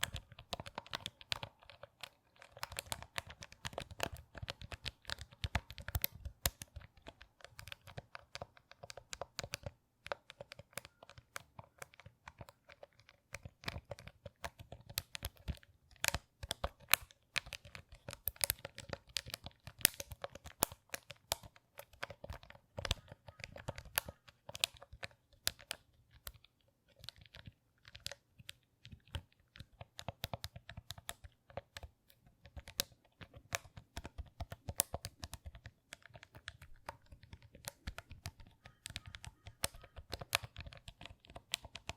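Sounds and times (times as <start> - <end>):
crinkling and crackling: 0.0 - 41.9.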